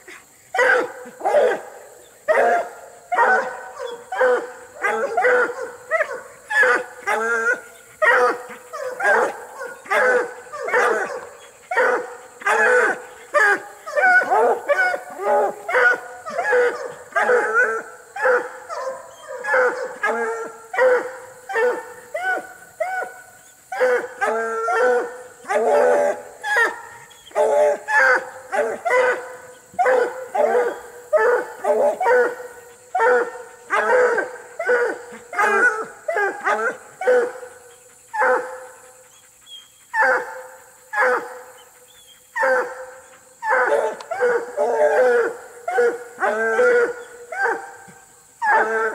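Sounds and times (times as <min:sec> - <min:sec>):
dogs barking and baying: 0:00.0 - 0:48.9.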